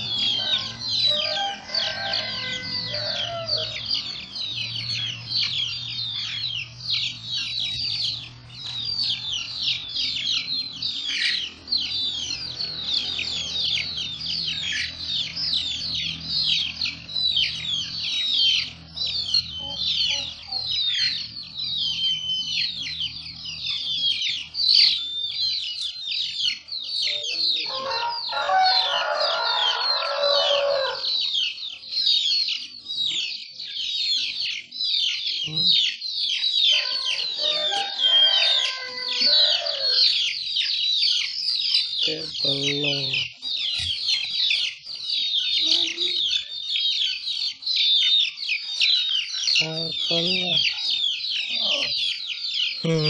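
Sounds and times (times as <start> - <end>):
many birds chirping: 0.0 - 53.0.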